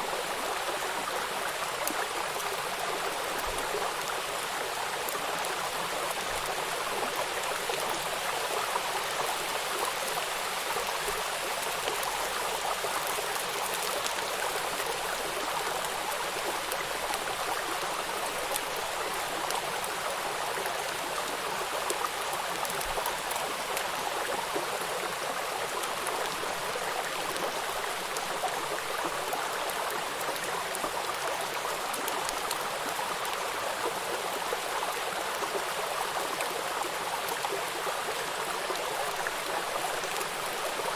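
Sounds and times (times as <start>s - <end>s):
rain falling on water: 0.0s - 40.9s
river water flowing: 0.0s - 40.9s.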